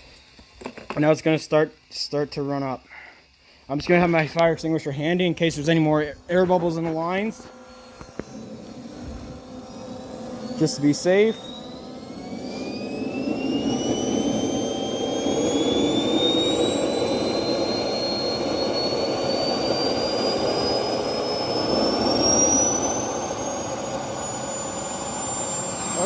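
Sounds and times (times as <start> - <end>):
turbine engine whine and roar: 3.8 - 26.0.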